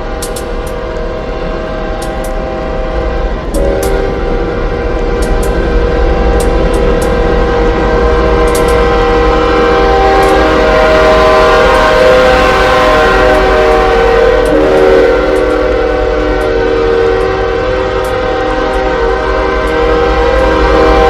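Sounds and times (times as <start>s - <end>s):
locomotive air horn chord: 0.0s - 21.0s
passing train running noise: 0.0s - 21.0s.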